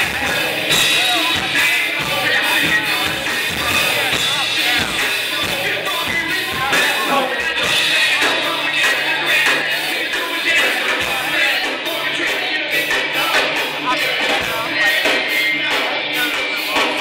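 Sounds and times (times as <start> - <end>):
drum kit: 0.0 - 17.0
keyboard: 0.0 - 17.0
person singing into microphone: 0.0 - 17.0.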